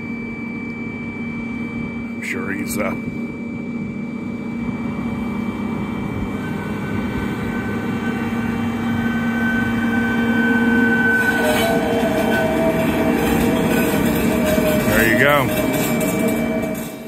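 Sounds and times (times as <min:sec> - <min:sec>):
railway machine engine: 0:00.0 - 0:17.0
second tone: 0:00.0 - 0:17.0
thin steady whine: 0:00.0 - 0:17.0.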